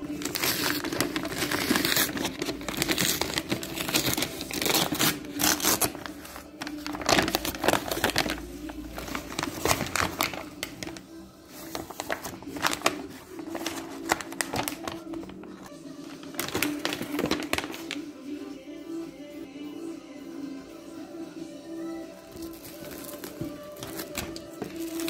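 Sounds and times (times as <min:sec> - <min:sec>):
packaging crinkling and tearing: 0:00.0 - 0:18.0, 0:22.3 - 0:25.0.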